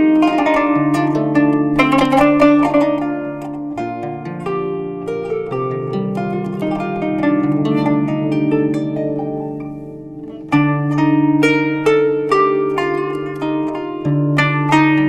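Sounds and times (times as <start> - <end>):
plucked zither melody: 0.0 - 15.0.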